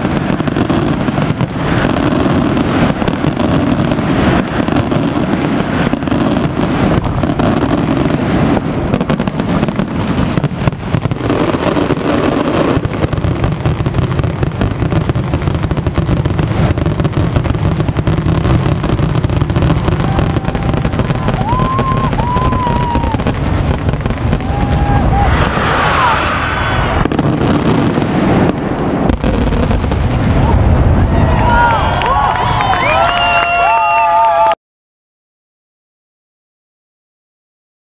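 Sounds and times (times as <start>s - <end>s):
fireworks crackling: 0.0s - 34.5s.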